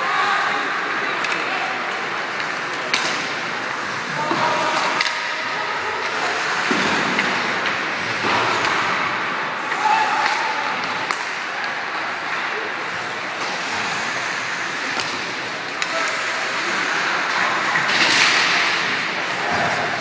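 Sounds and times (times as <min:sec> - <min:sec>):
skating and arena noise: 0:00.0 - 0:20.0
hockey sticks and puck clacking: 0:00.1 - 0:20.0.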